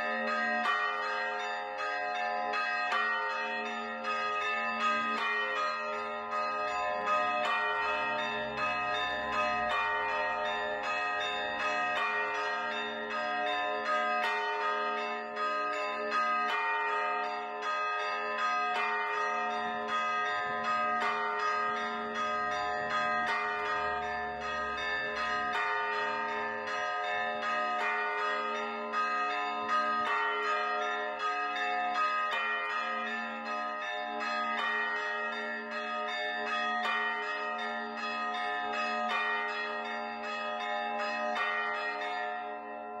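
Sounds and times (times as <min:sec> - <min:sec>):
church bells pealing: 0:00.0 - 0:43.0.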